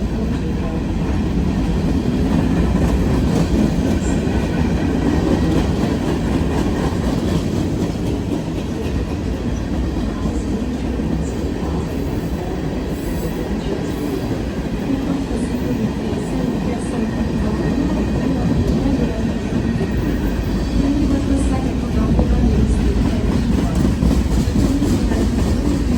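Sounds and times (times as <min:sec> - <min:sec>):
train wheels on track: 0:00.0 - 0:25.9.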